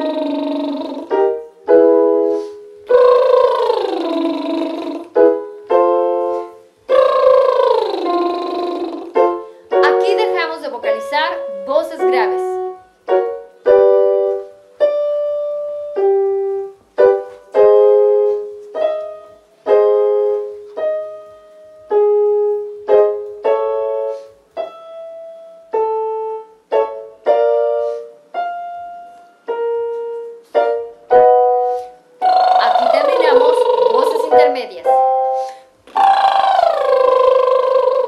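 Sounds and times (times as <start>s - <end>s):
electronic keyboard piano chords: 0.0s - 38.0s.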